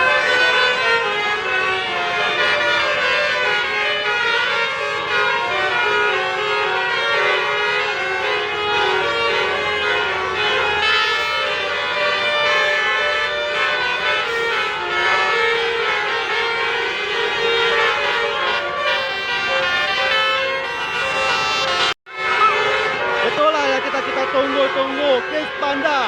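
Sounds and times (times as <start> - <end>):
musical air horn melody: 0.0 - 26.0.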